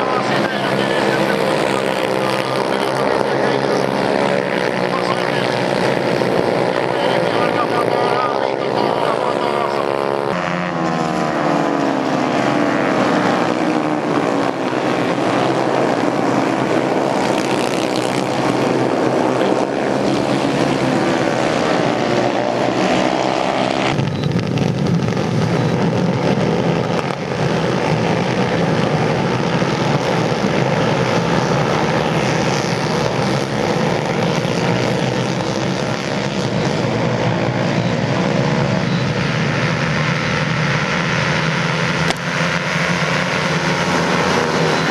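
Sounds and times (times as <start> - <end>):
low engine drone: 0.0 - 44.9
racing motorcycles passing: 0.0 - 44.9.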